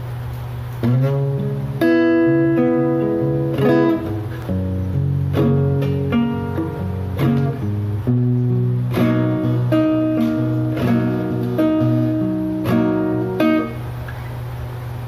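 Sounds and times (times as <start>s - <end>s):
guitar strumming chords: 0.8s - 14.2s.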